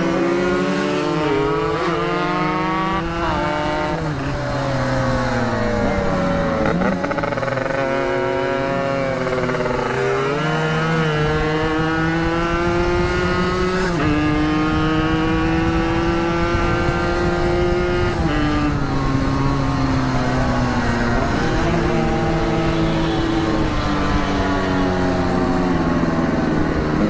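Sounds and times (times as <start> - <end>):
two-stroke motorcycle engine: 0.0 - 27.0.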